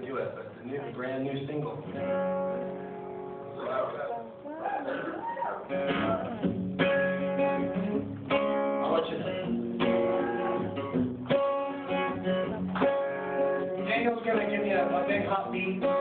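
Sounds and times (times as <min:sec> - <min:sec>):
acoustic guitar strumming chords: 0:01.8 - 0:16.0.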